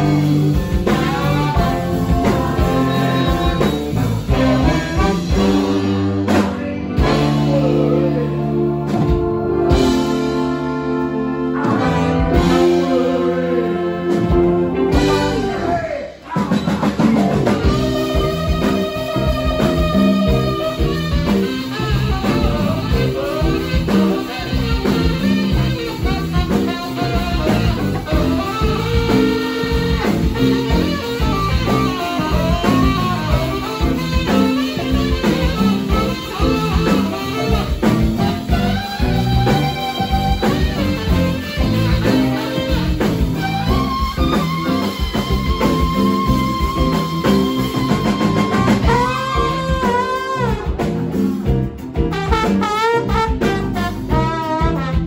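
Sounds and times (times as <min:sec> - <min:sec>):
saxophone: 0:00.0 - 0:16.3, 0:17.0 - 0:55.0
blues band playing: 0:00.0 - 0:55.0.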